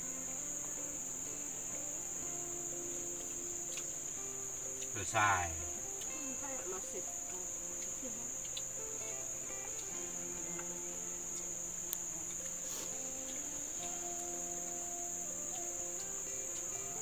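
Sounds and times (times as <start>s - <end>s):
faint background music: 0.0s - 17.0s
insects droning: 0.0s - 17.0s.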